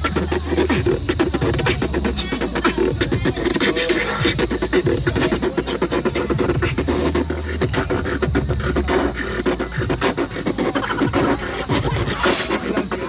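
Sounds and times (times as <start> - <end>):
person beatboxing: 0.0 - 13.0.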